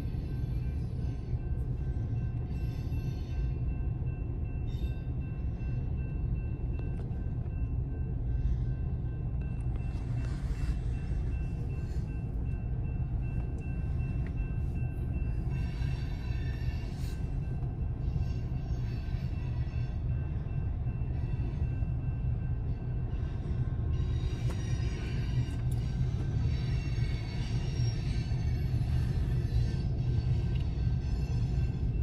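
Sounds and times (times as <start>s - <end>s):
crossing signal ringing: 0.0s - 32.0s
train wheels rumbling on rail: 0.0s - 32.0s.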